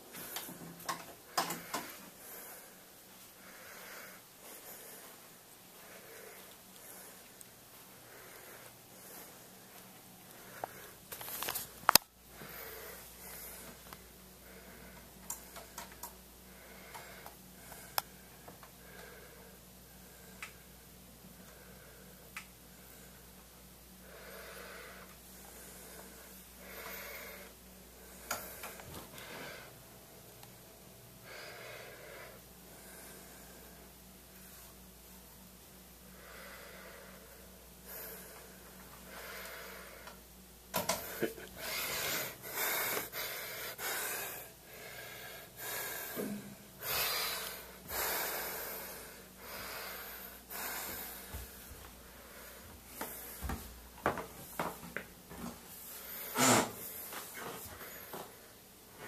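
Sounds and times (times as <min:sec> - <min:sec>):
person breathing heavily: 0:00.0 - 0:23.4, 0:24.0 - 0:29.8, 0:31.2 - 0:34.9, 0:36.0 - 0:53.7, 0:55.8 - 0:58.6.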